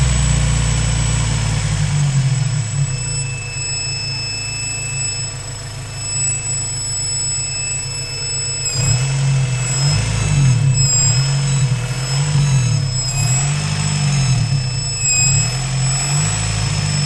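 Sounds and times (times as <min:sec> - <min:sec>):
car engine idling: 0:00.0 - 0:17.0
high-pitched whine: 0:00.0 - 0:17.0.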